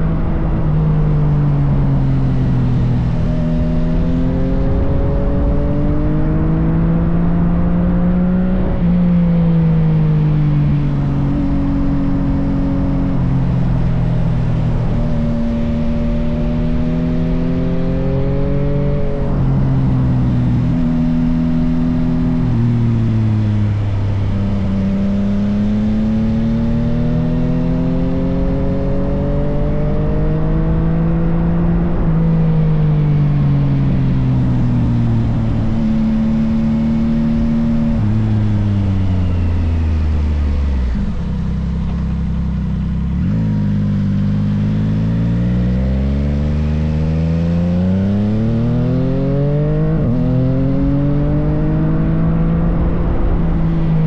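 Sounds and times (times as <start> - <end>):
motorcycle engine revving through gears: 0.0 - 54.0.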